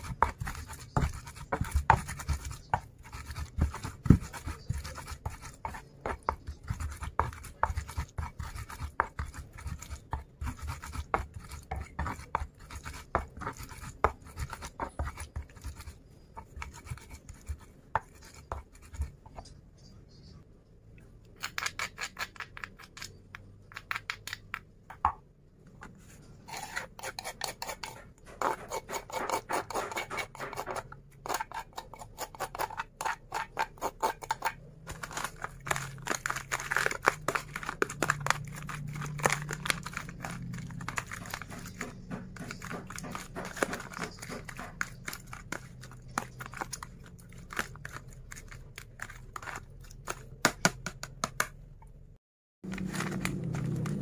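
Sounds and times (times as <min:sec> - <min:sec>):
metal spoon scraping a mortar: 0:00.0 - 0:19.1, 0:21.4 - 0:23.2, 0:26.4 - 0:50.4, 0:52.7 - 0:54.0.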